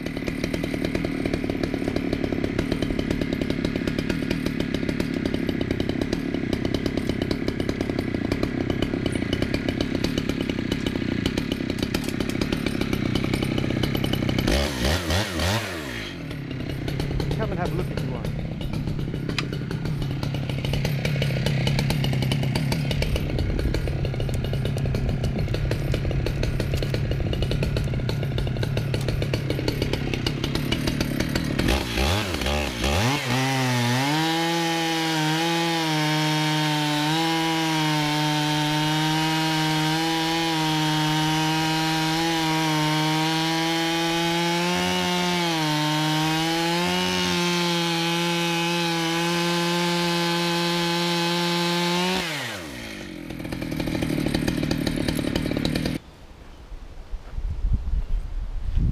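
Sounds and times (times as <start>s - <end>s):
chainsaw ripping a log: 0.0s - 56.0s.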